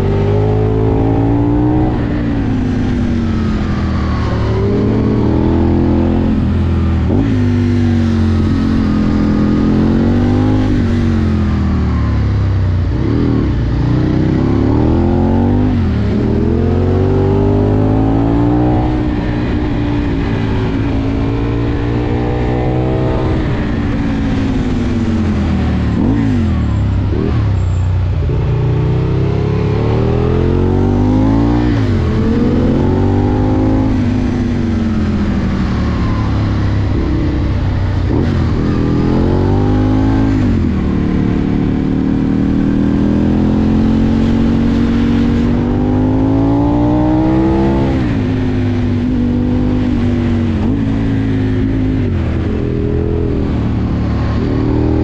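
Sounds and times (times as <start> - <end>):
motorcycle engine accelerating: 0.0 - 55.0
wind and road noise: 0.0 - 55.0.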